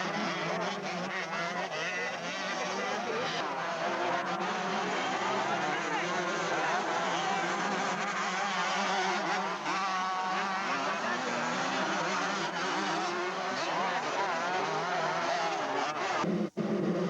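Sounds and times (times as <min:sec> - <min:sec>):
motorcycle engines racing: 0:00.0 - 0:17.0.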